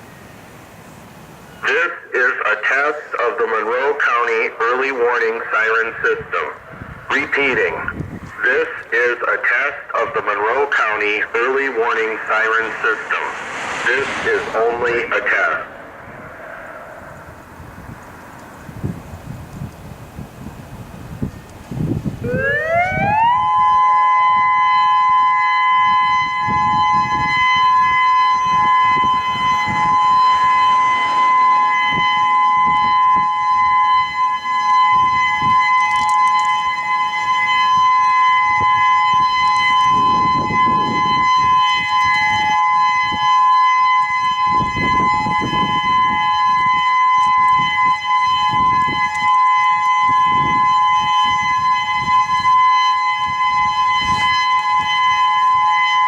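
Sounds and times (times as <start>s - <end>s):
outdoor warning siren: 0.0s - 56.0s.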